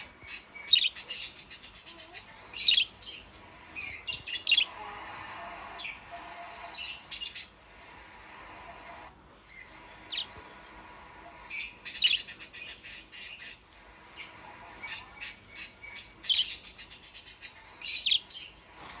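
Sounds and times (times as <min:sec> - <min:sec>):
budgerigars chirping: 0:00.0 - 0:09.3, 0:10.0 - 0:10.4, 0:11.4 - 0:18.5.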